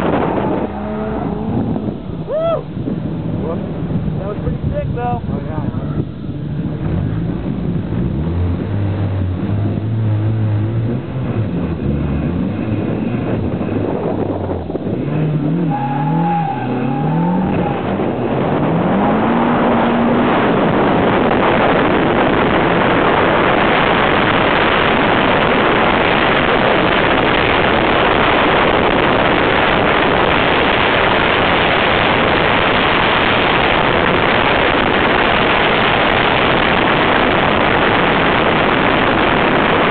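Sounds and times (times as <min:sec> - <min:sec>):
car engine revving: 0:00.0 - 0:39.9
loud steady rushing noise: 0:00.0 - 0:39.9.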